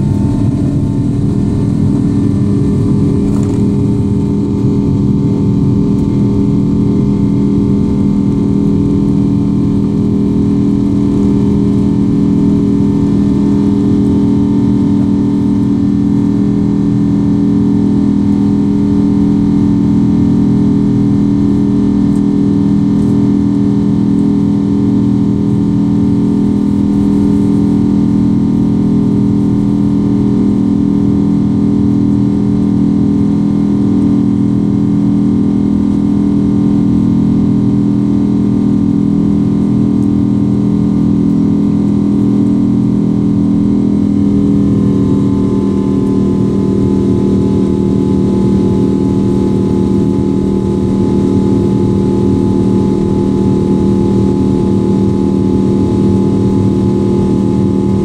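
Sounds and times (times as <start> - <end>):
jet engine and airflow drone: 0.0 - 58.0.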